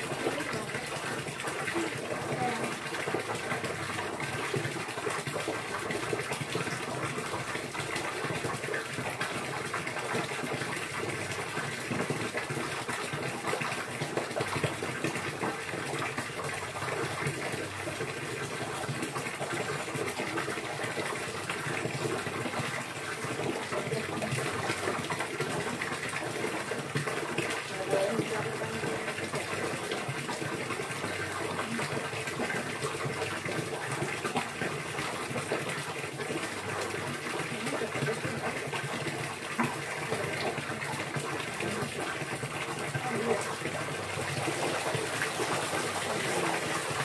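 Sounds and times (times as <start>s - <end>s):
water running and splashing: 0.0s - 47.0s.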